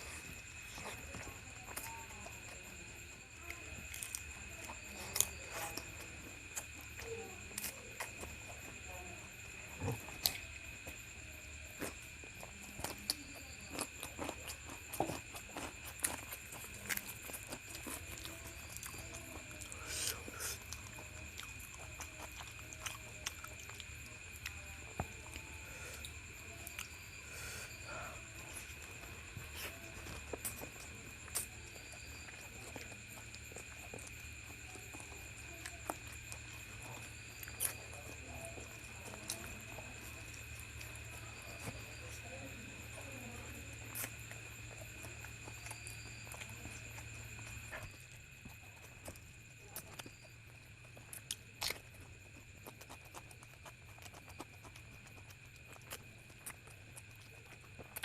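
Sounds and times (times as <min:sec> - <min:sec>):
wet chewing and lip smacks: 0:00.0 - 0:58.0.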